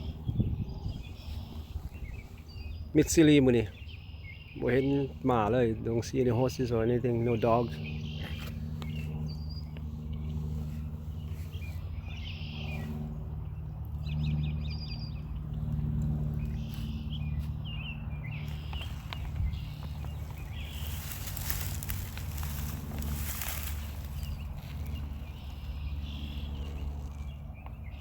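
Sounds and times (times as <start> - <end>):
birds chirping and trilling: 0.0 - 28.0
steady low hum: 0.0 - 28.0.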